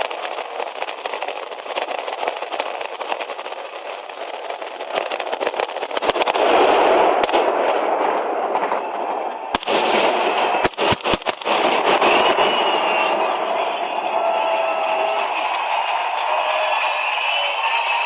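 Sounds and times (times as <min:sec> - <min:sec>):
fireworks crackling and banging: 0:00.0 - 0:18.0
loud firework reports: 0:00.0 - 0:18.0.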